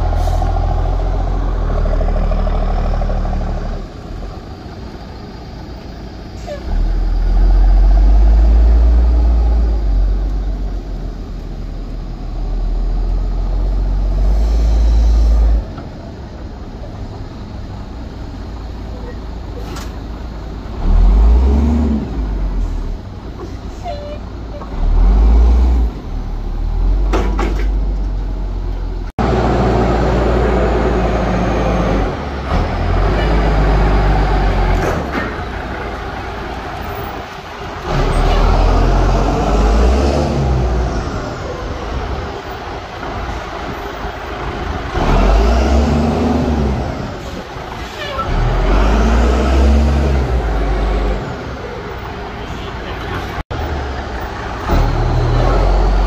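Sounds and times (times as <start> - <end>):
truck engine revving: 0.0 - 5.1, 6.4 - 23.3, 24.7 - 52.4, 53.3 - 56.0.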